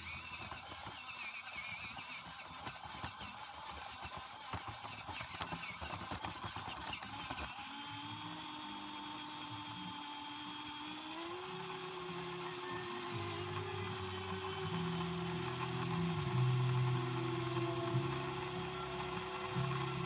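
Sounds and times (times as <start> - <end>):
toy car electric motor whining: 0.0 - 20.0.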